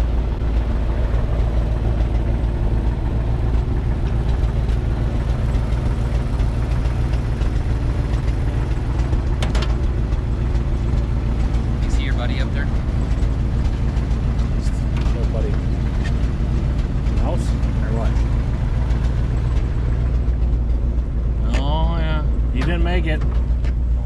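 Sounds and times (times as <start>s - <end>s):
farm machine engine idling: 0.0s - 24.0s.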